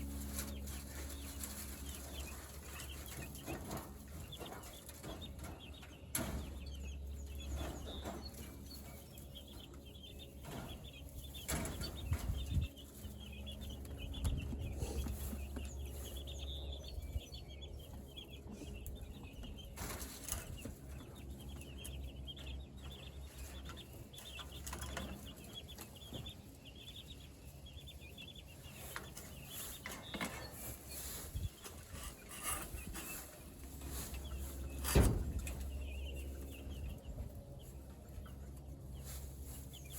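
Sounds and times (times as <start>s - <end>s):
chickens peeping and clucking: 0.0s - 39.9s.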